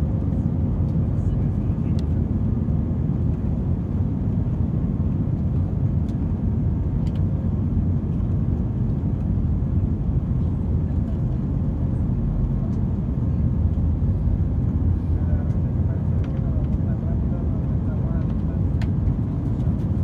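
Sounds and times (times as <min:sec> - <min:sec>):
aircraft cabin rumble: 0:00.0 - 0:20.0.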